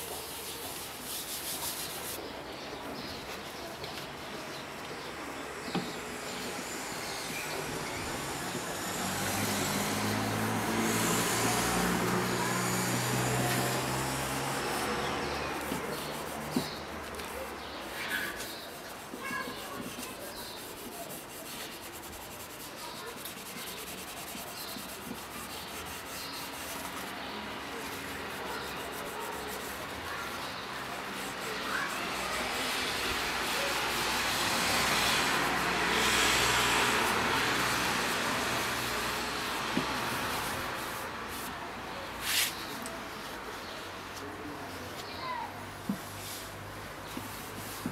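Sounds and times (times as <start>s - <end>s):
cloth pad rubbing wood: 0.0s - 2.2s, 5.6s - 41.6s, 42.2s - 42.8s, 45.8s - 47.9s.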